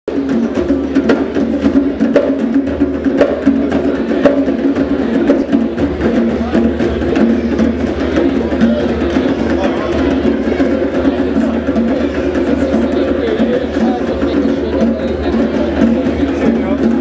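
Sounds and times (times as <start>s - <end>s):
accented drum slap: 0.1s - 17.0s
djembe drums playing: 0.1s - 17.0s.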